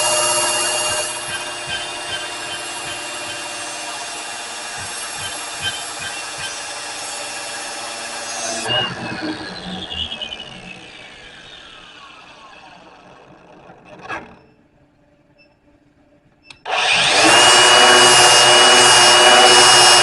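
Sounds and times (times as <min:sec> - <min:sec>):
grinder scrapes: 0:00.0 - 0:14.5, 0:16.7 - 0:20.0
electric grinder whining: 0:00.0 - 0:14.6, 0:16.7 - 0:20.0.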